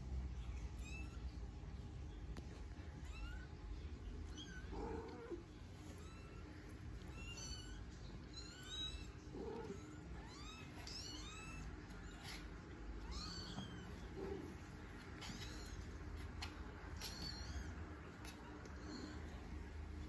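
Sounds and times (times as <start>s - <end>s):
kittens mewing: 2.9s - 19.6s.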